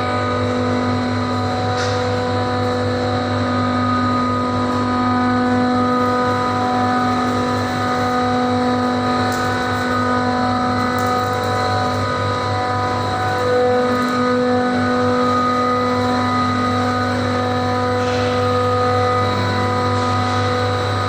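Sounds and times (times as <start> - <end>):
machinery droning: 0.0 - 21.0.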